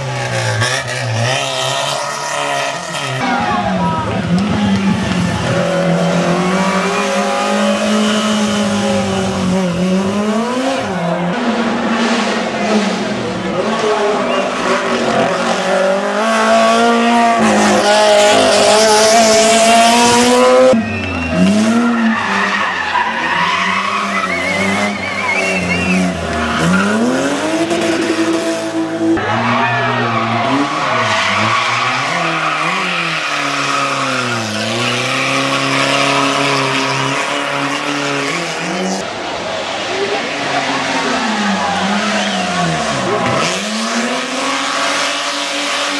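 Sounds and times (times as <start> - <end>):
race car engine accelerating: 0.0 - 45.9.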